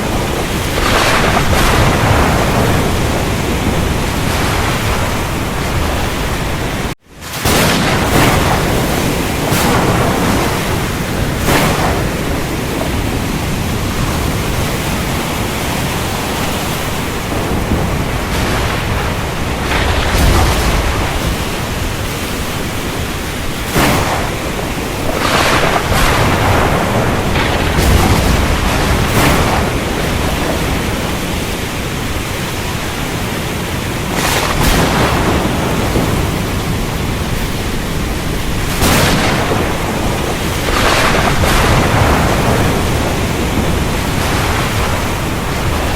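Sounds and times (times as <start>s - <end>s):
heavy rain: 0.0s - 45.9s
thunder cracks and rumbles: 0.0s - 45.9s.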